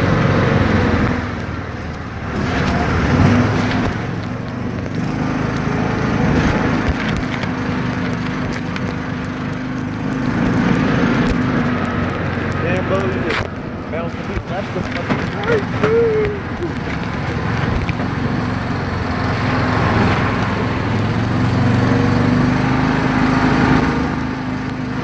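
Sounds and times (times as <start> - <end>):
vehicle engine running: 0.0 - 25.0
vehicle knocks and rattles: 0.7 - 21.4.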